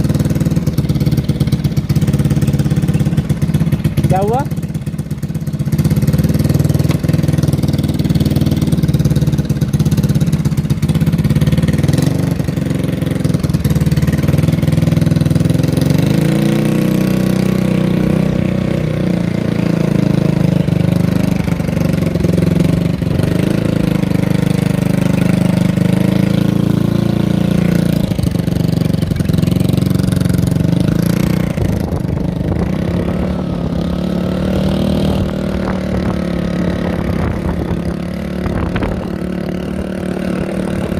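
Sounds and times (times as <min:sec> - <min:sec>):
mini bike engine revving: 0:00.0 - 0:40.9.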